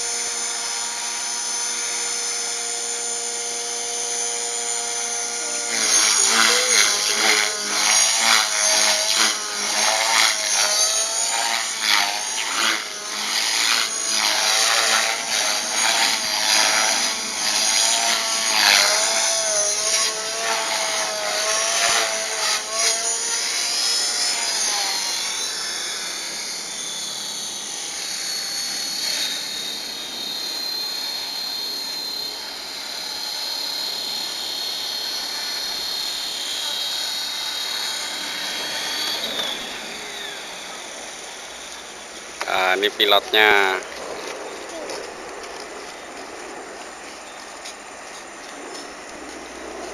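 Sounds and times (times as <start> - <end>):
rc helicopter rotor whine: 0.0 - 49.9.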